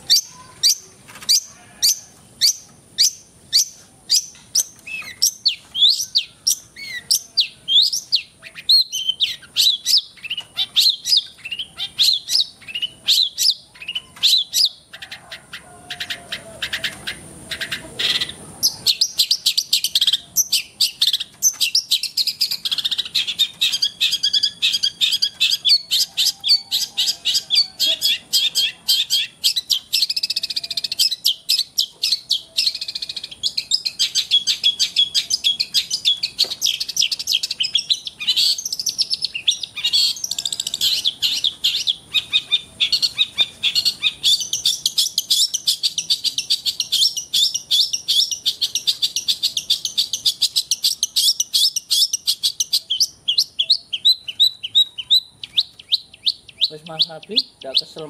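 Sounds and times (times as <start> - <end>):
bird chattering song: 0.0 - 58.0.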